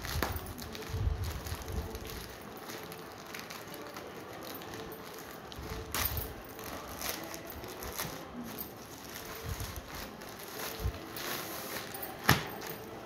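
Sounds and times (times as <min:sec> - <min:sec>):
plastic mailer crinkling: 0:00.0 - 0:13.0
sharp plastic crackle: 0:00.0 - 0:13.0.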